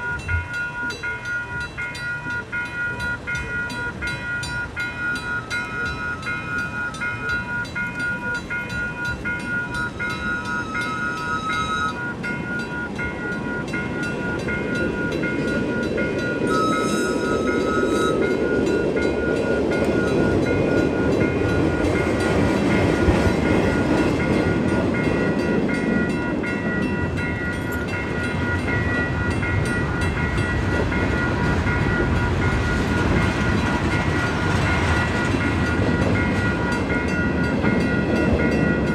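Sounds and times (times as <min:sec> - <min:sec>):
freight train rumble: 0:00.0 - 0:38.9
railroad crossing bell ringing: 0:00.0 - 0:38.9.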